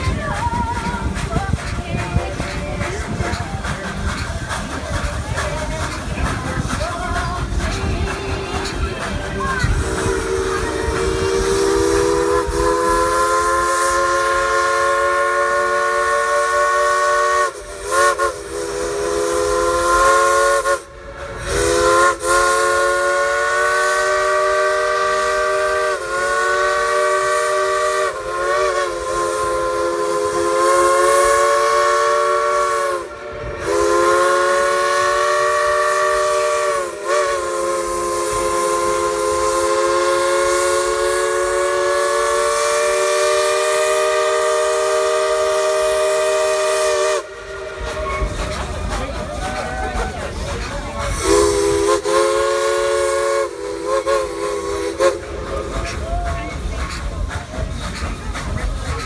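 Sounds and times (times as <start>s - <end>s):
steam locomotive whistle blasts: 8.6s - 58.0s.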